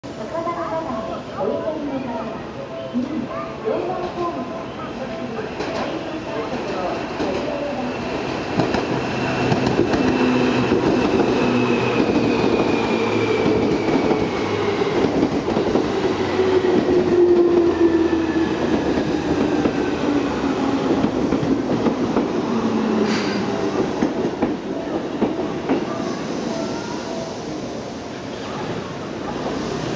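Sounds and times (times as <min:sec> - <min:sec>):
train wheels on rails: 0:03.9 - 0:29.9.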